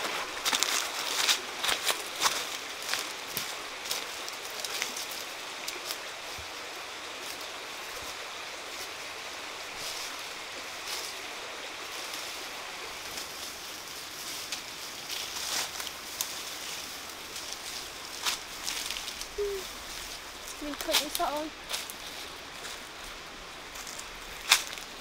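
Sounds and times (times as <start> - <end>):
footsteps through crackling brush: 0.0 - 25.0
steady hiss: 0.0 - 25.0.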